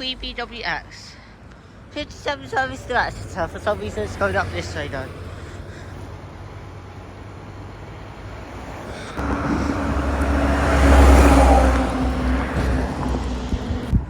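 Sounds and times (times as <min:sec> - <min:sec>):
bus passing by: 0:00.0 - 0:14.0.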